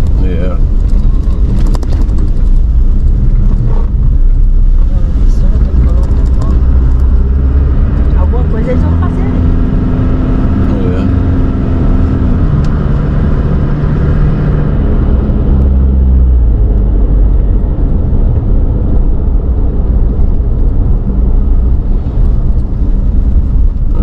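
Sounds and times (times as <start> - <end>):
car engine rumbling: 0.0 - 24.0
road noise: 0.0 - 24.0.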